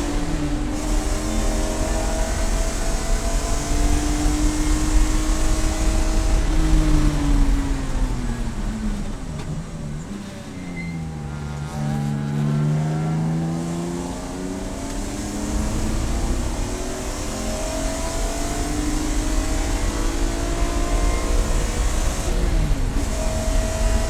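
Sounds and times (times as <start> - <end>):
race car engine accelerating: 0.0 - 24.0
wind and road noise: 0.0 - 24.0.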